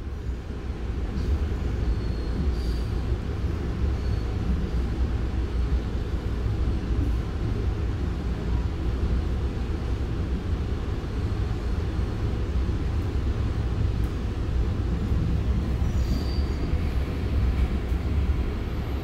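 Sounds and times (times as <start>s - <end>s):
train car running rumble: 0.0s - 19.0s.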